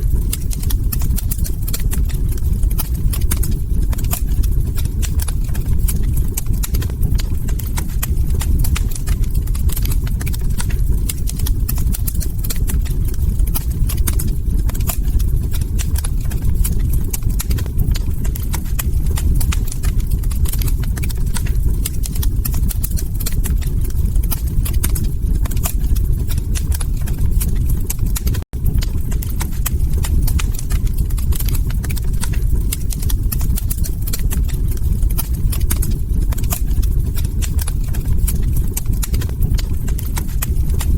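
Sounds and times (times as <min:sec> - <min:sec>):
low rumble of burning logs: 0:00.0 - 0:40.9
wood fire crackling and popping: 0:00.0 - 0:40.9.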